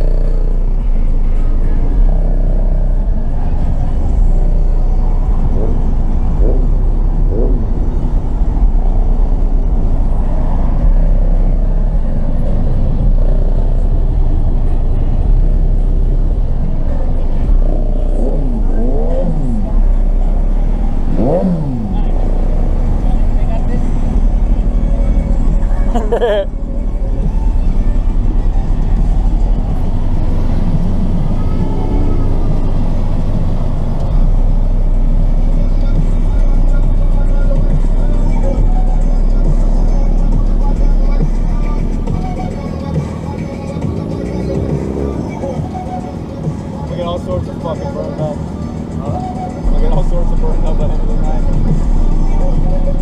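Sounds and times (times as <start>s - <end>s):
deep subwoofer bass rumble: 0.0s - 45.7s, 49.6s - 53.0s.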